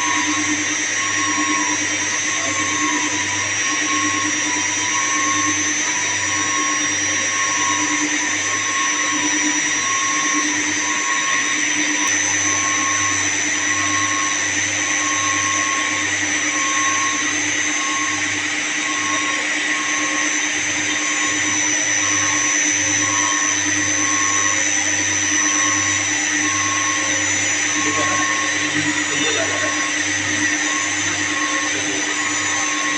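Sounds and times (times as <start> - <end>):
electric machinery running: 0.0 - 32.9
high whine: 0.0 - 32.9.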